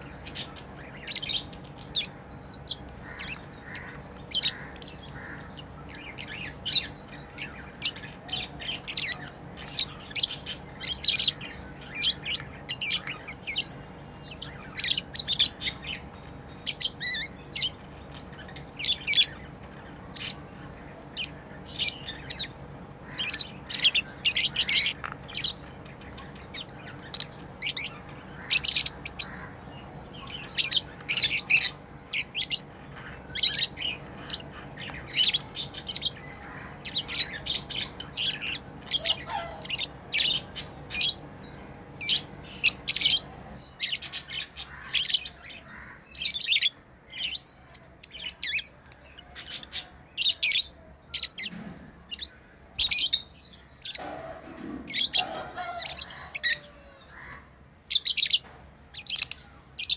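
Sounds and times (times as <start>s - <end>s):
lovebirds chirping: 0.0s - 59.9s
steady low hum: 0.0s - 59.9s.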